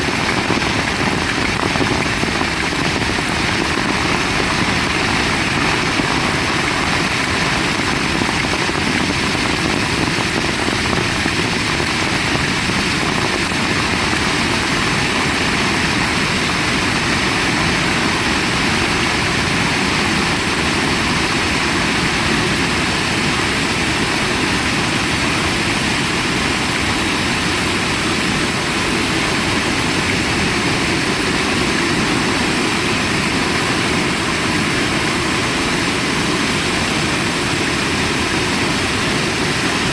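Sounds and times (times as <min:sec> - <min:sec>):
heavy rain in strong wind: 0:00.0 - 0:39.9.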